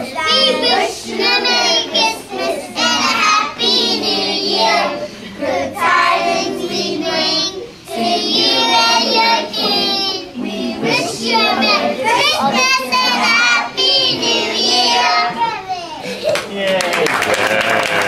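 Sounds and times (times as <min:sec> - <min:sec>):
children singing together: 0:00.0 - 0:16.2.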